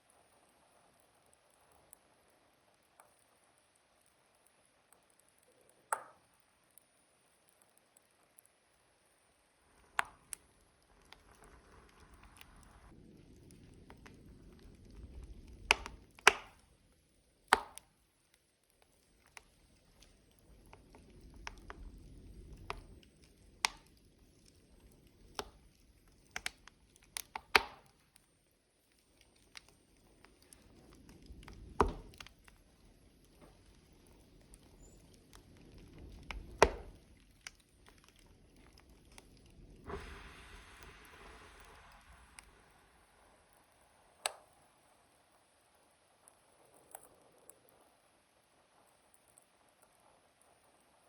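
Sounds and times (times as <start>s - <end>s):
burning logs crackling: 0.0s - 51.0s
low rumble of flame: 8.3s - 51.0s.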